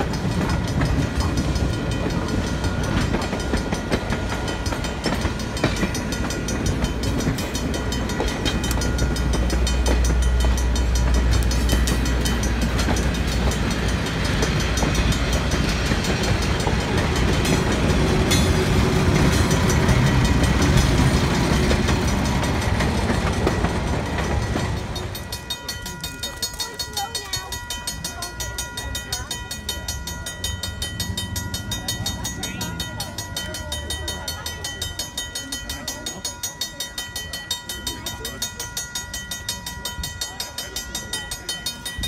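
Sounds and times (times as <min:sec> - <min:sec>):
crossing warning bell ringing: 0:00.0 - 0:42.0
train wheels rumbling on rails: 0:00.0 - 0:42.0.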